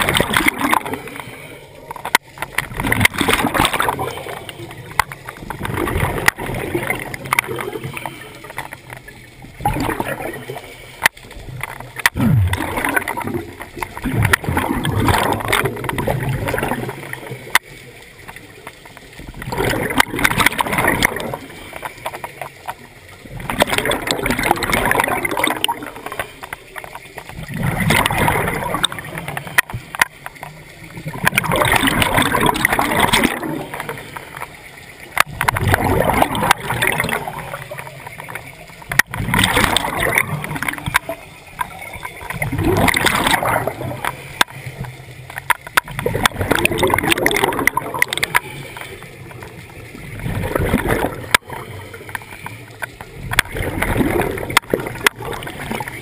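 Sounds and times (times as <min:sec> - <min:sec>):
exhaled bubbles gurgling underwater: 0:00.0 - 0:56.0.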